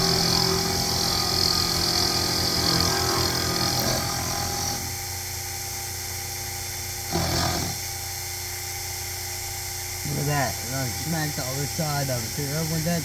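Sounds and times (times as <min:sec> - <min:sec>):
milling machine motor hum: 0:00.0 - 0:13.0.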